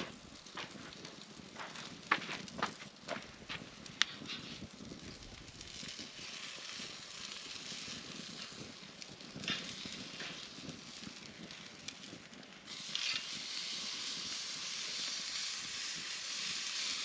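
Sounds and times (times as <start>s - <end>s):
campfire hissing and crackling: 0.0s - 17.0s.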